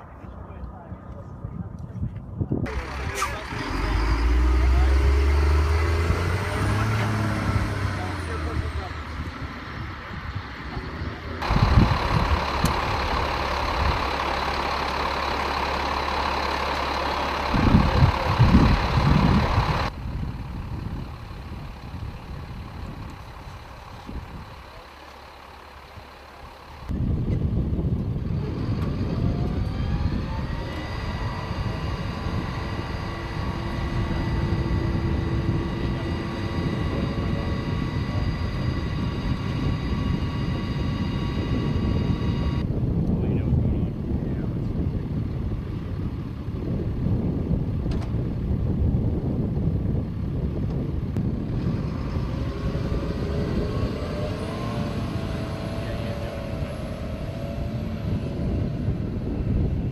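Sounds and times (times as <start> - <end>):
engine whines: 0.0 - 59.9
truck engine running: 0.0 - 59.9.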